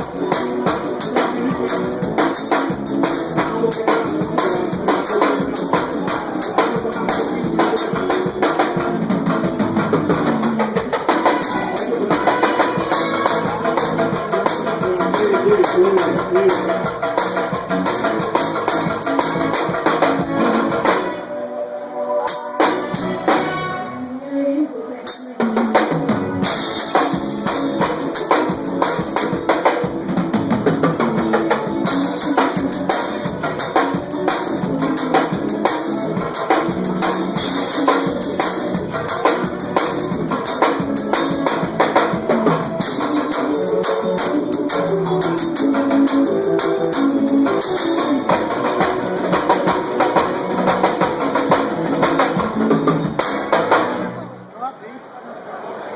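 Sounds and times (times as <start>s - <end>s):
drum kit beat: 0.0s - 21.3s, 22.3s - 23.9s, 25.1s - 54.3s
band playing: 0.0s - 55.1s.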